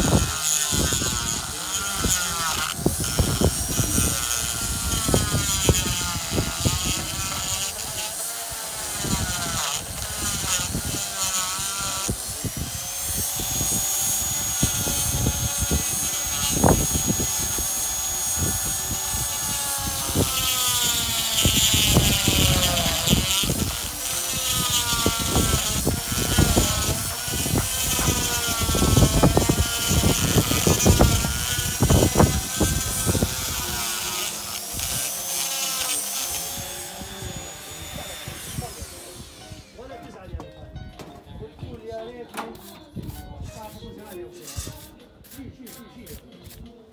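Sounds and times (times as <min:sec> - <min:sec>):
die grinder grinding stone: 0:00.0 - 0:39.9.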